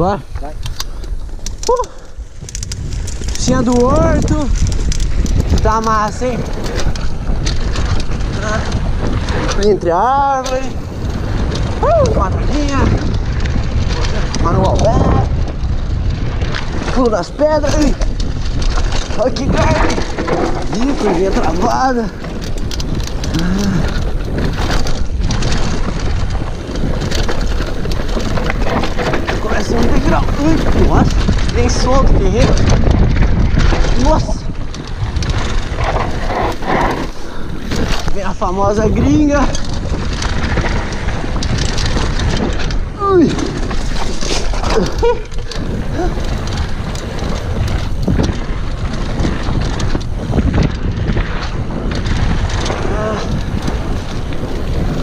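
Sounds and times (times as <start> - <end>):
bike rattling over rough ground: 0.0 - 55.0
wind rushing on microphone: 0.0 - 55.0.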